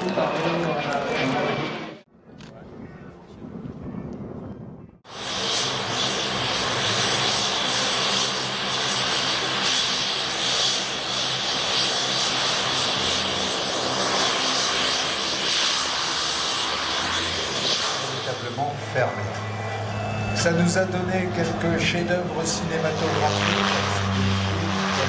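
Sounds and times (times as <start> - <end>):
aircraft engine running: 0.0 - 25.0.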